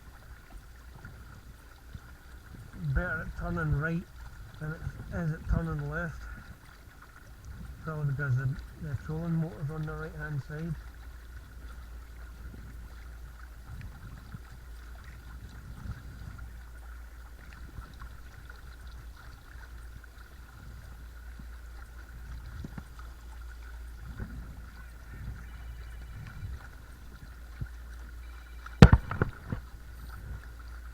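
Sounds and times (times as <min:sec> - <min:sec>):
water sloshing against hull: 0:00.0 - 0:30.9.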